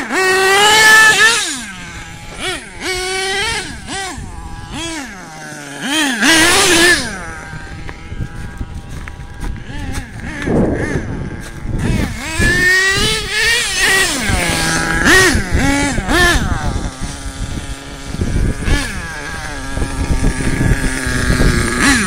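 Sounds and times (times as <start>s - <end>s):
toy truck engine revving: 0.0s - 22.0s.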